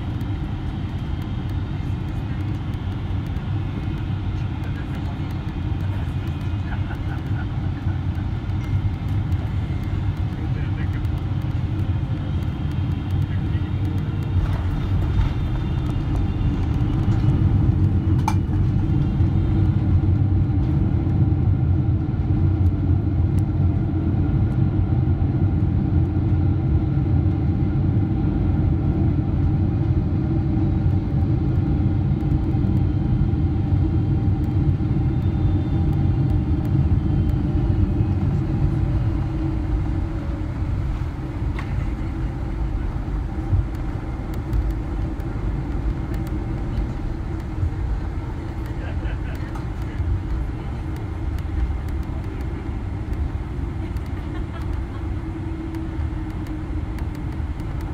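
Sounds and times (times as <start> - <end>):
jet engines: 0.0 - 57.9
wheels rumbling on runway: 0.0 - 57.9.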